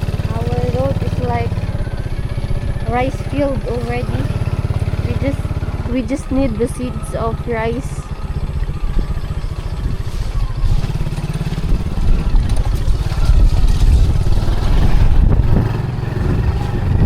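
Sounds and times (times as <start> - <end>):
road noise: 0.0 - 17.0
vehicle engine rumbling: 0.0 - 17.0.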